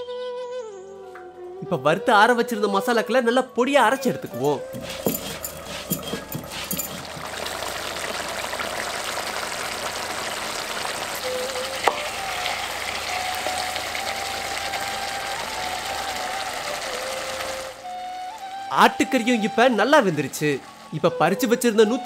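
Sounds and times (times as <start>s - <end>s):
curry sizzling in a clay pot: 4.1s - 22.0s.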